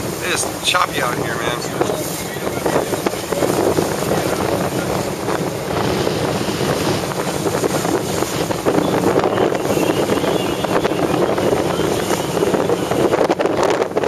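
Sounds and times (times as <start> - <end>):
water rushing: 0.0 - 14.0
wind buffeting microphone: 0.0 - 14.0.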